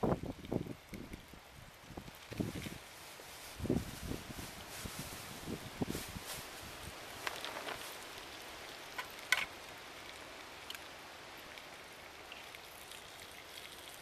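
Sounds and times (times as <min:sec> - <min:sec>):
fire crackles and pops: 0:00.0 - 0:14.0
wood fire hissing: 0:00.0 - 0:14.0.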